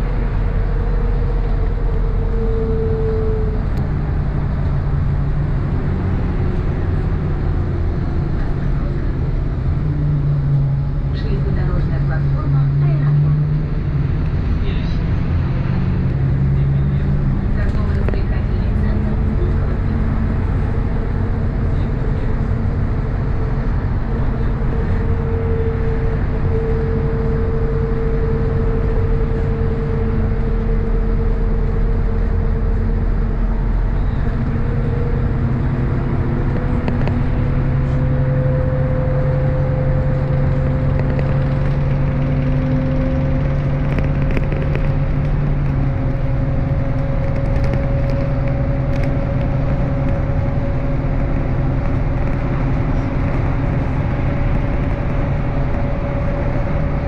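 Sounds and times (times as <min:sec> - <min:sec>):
bus engine running: 0:00.0 - 0:57.0
rising whine: 0:00.0 - 0:57.0
tyre and road noise: 0:00.0 - 0:57.0.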